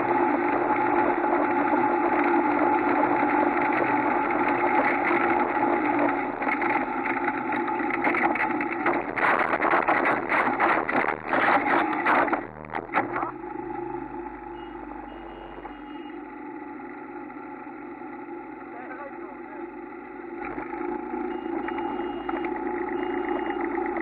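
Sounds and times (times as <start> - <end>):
buggy engine running: 0.0 - 24.0.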